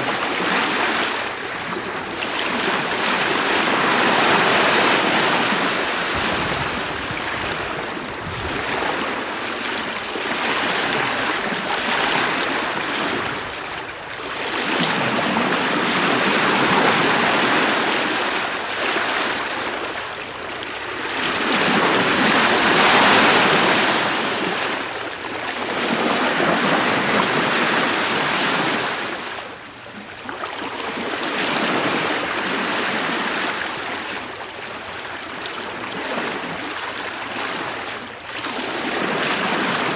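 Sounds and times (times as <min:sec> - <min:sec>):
bow wave washing and hissing: 0:00.0 - 0:39.9
light wind: 0:00.0 - 0:39.9.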